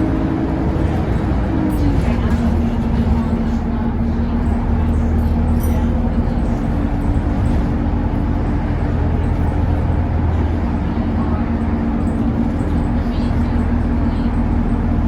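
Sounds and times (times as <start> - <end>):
bus engine droning with whine: 0.0 - 15.0.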